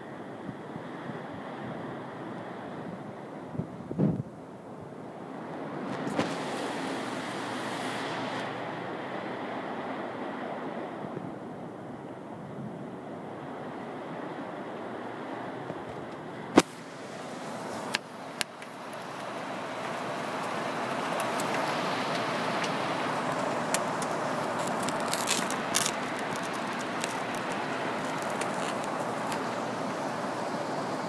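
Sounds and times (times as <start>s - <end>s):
storm rain and wind: 0.0s - 31.0s.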